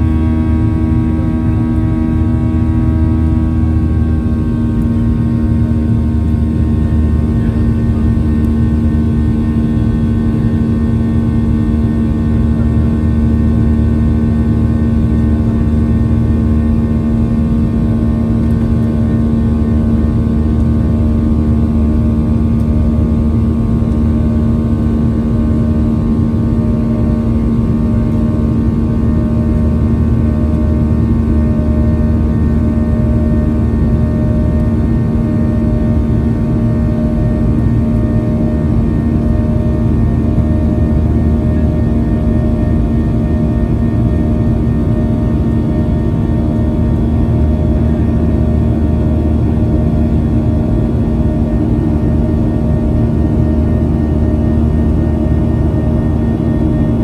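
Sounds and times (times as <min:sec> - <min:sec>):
jet engines heard inside cabin: 0:00.0 - 0:57.0.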